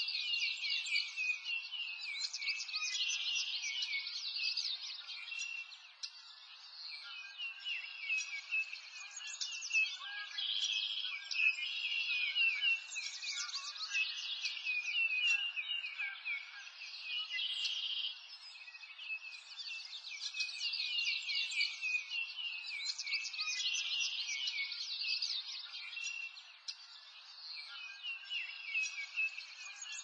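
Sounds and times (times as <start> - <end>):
small birds chirping and twittering: 0.0 - 30.0.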